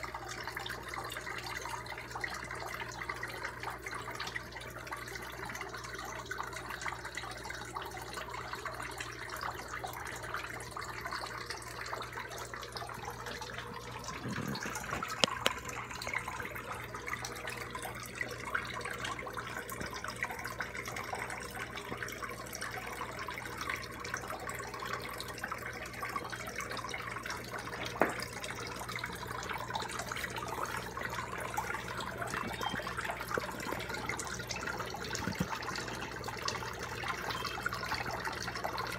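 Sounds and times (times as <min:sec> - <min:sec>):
low steady hum: 0:00.0 - 0:38.9
water trickling into pool: 0:00.0 - 0:38.9.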